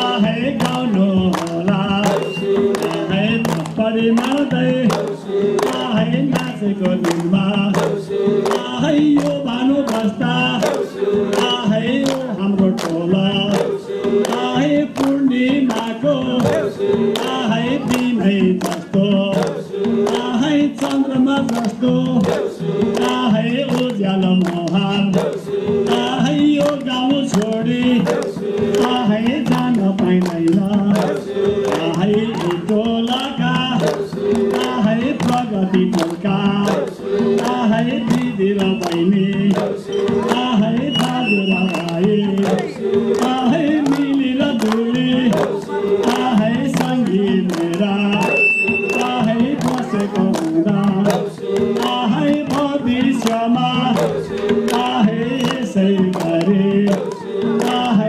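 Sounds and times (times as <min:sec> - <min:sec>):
hand clapping: 0:00.0 - 0:58.0
hand drum beat: 0:00.0 - 0:58.0
men singing in unison: 0:00.0 - 0:58.0.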